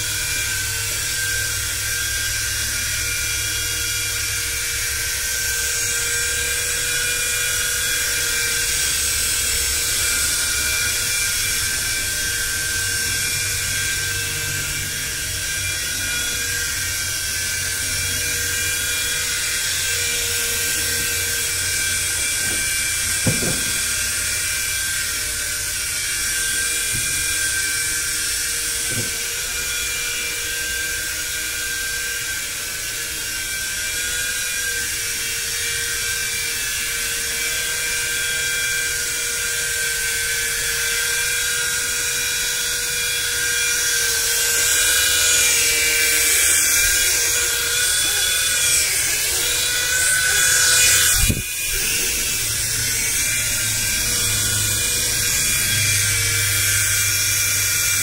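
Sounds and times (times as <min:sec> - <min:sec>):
toy helicopter whine: 0:00.0 - 0:58.0.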